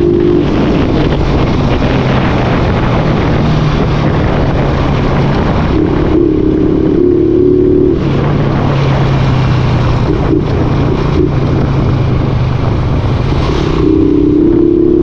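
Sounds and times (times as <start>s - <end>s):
motorcycle engine while riding: 0.0s - 15.0s
wind on microphone: 0.0s - 15.0s.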